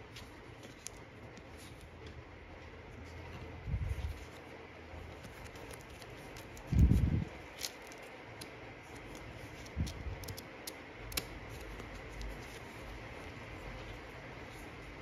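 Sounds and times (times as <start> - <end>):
paper cards flicking and rustling: 0.0 - 15.0.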